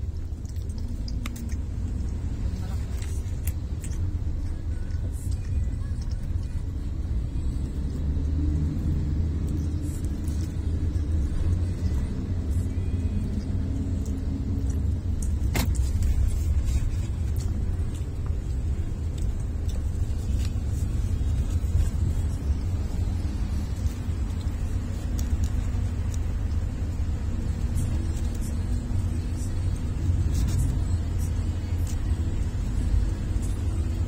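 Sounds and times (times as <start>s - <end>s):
car rumble inside cabin: 0.0s - 34.0s.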